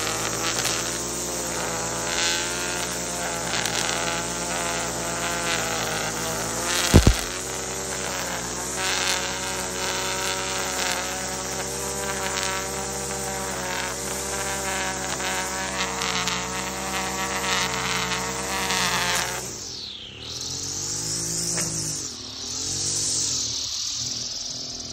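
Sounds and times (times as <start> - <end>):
string trimmer running: 0.0 - 24.9.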